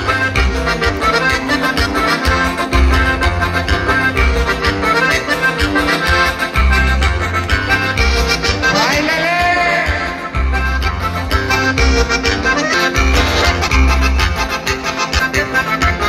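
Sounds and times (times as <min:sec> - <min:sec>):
accordion: 0:00.0 - 0:16.0
bass line: 0:00.0 - 0:16.0.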